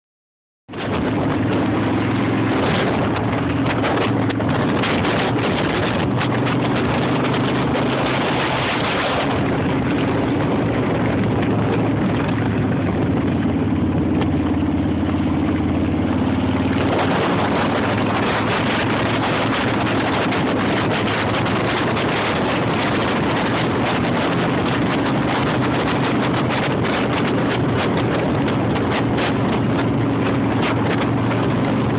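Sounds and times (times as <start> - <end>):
motorcycle engine droning: 0.7 - 31.9
wind and road noise: 0.7 - 31.9.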